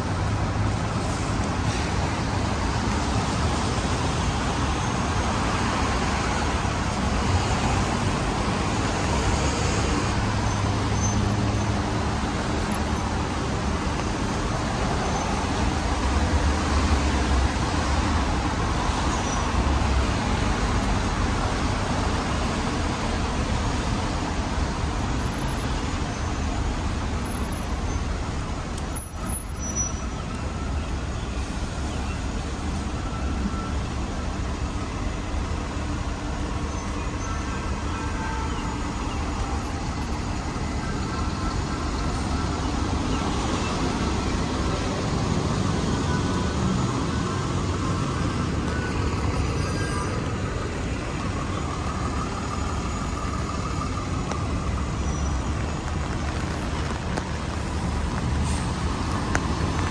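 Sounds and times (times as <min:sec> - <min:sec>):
traffic on wet roads: 0:00.0 - 0:59.9.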